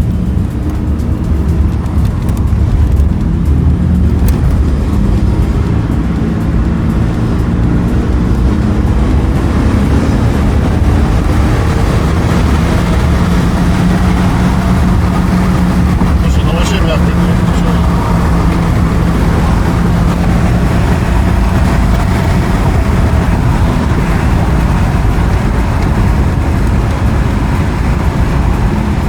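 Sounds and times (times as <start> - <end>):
car engine hum: 0.0 - 29.0
road noise: 0.0 - 29.0.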